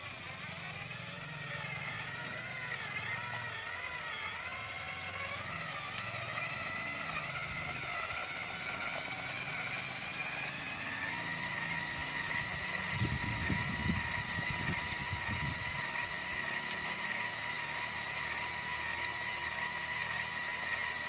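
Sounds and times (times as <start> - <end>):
model truck motor whining: 0.0 - 21.0.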